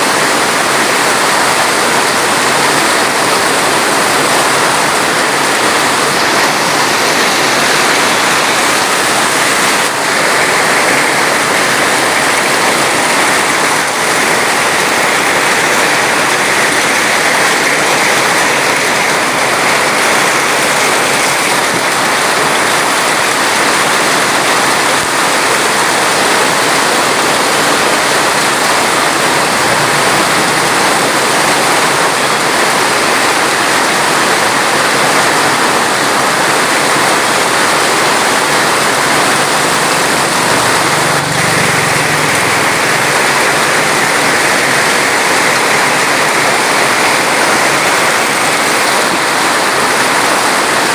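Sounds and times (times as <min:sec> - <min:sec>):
rushing water: 0:00.0 - 0:50.9.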